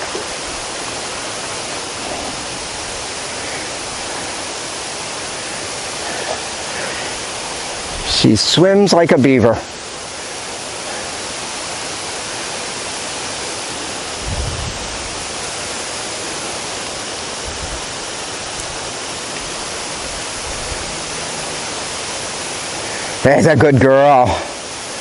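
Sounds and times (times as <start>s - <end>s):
rushing water hiss: 0.0s - 25.0s.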